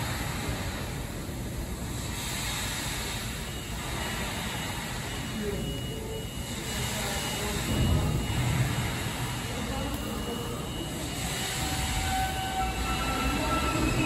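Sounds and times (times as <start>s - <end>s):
subway train rumbling: 0.0s - 14.0s
thin high whines: 1.9s - 14.0s.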